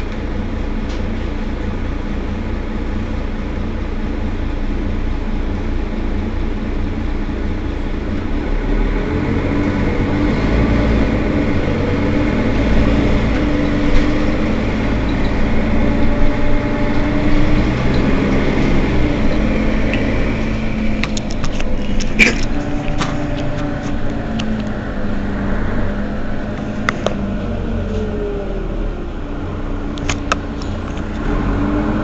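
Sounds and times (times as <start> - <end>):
bus engine running: 0.0 - 32.0.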